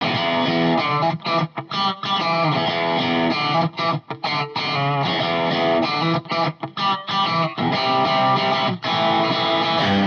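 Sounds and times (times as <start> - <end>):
distorted electric guitar music: 0.0 - 10.0.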